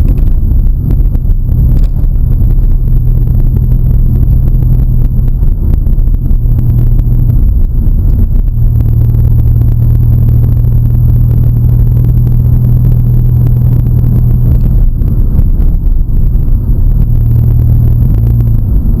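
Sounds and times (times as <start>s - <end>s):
car engine humming: 0.0s - 19.0s.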